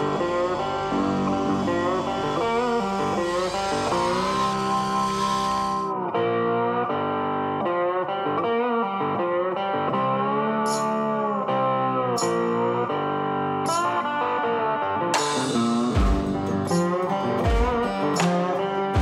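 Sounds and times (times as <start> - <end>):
guitar instrumental: 0.0 - 19.0.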